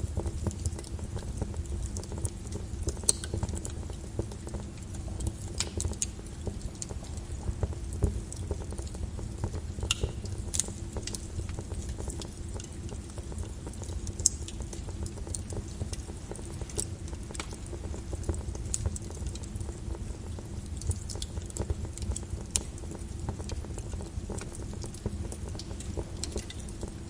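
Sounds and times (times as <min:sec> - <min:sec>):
lava crackling and popping: 0:00.0 - 0:27.0
lava flow rumbling: 0:00.0 - 0:27.0.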